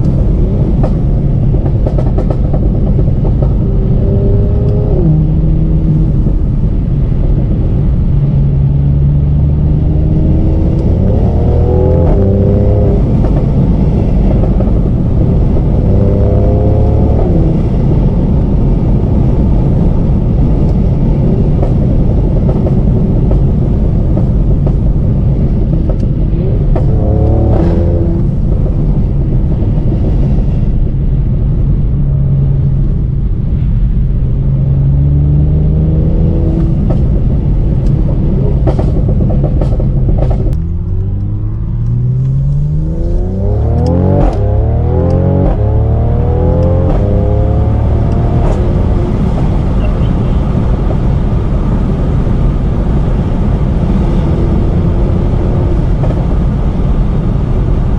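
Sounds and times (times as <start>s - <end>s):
car engine accelerating hard: 0.0s - 57.9s
exhaust crackles and pops: 0.0s - 57.9s.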